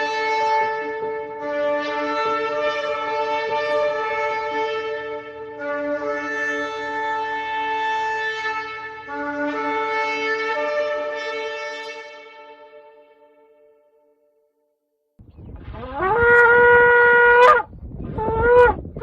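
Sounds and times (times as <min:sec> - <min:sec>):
ram's horn blasts: 0:00.0 - 0:12.8, 0:15.8 - 0:18.8.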